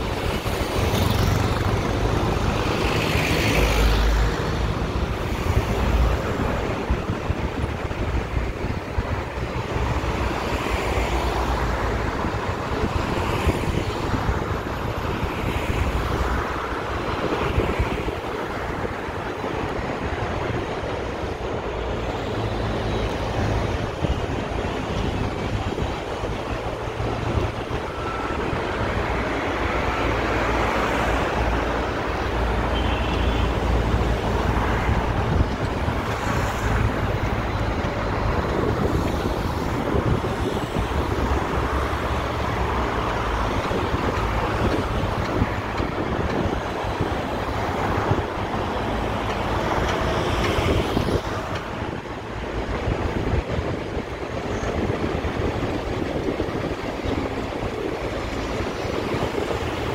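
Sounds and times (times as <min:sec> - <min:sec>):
construction site noise: 0:00.0 - 0:59.9
road traffic rumble: 0:00.0 - 0:59.9.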